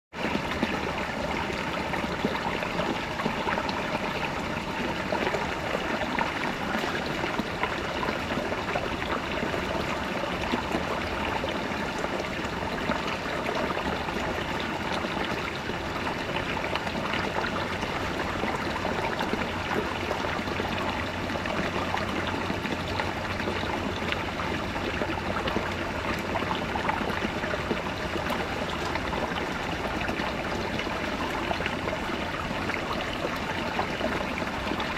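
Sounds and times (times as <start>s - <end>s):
brook babbling over rocks: 0.1s - 34.9s.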